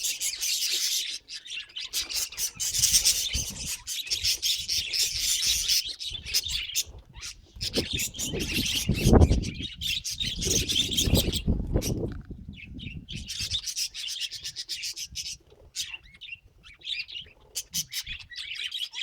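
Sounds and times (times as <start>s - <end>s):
budgerigars chirping: 0.0s - 12.0s, 12.8s - 19.0s.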